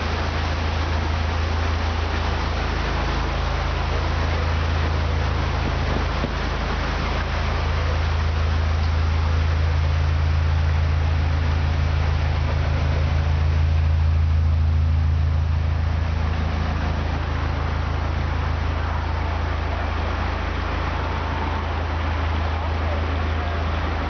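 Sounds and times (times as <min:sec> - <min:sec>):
boat engine throbbing: 0:00.0 - 0:24.0.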